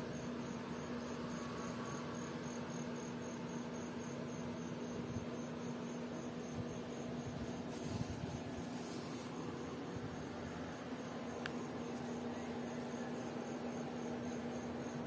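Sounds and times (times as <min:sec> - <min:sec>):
cricket chirping: 0:00.0 - 0:15.0
low steady hum: 0:00.0 - 0:15.0.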